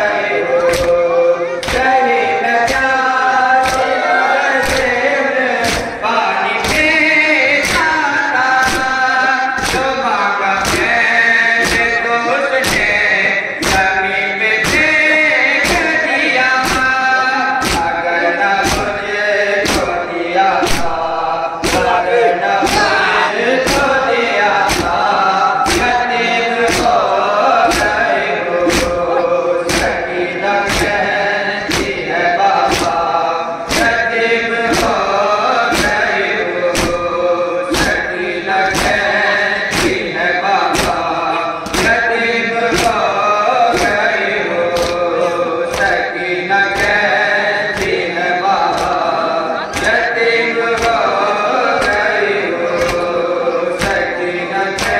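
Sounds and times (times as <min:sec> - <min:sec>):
men chanting in chorus: 0:00.0 - 0:54.9
rhythmic chest-beating: 0:00.0 - 0:54.9.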